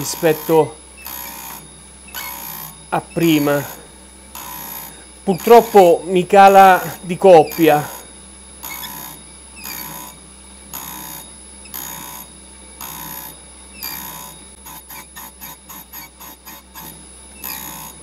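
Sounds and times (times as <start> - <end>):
grinding wheel hissing: 0.0 - 18.0
motor humming: 0.0 - 18.0.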